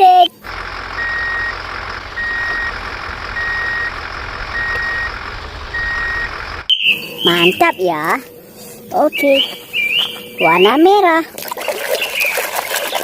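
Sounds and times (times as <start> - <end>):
truck reversing alarm beeping: 0.0 - 11.2
low engine rumble: 0.1 - 11.3.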